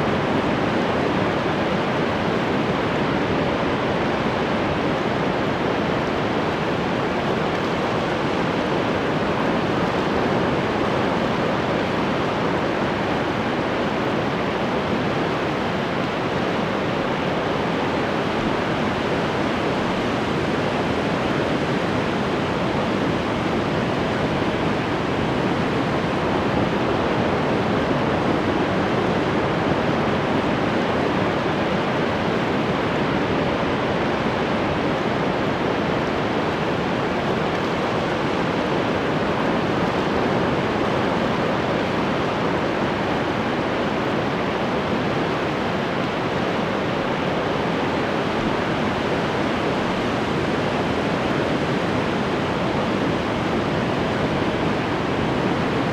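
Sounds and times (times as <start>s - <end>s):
waves breaking on shore: 0.0s - 55.9s.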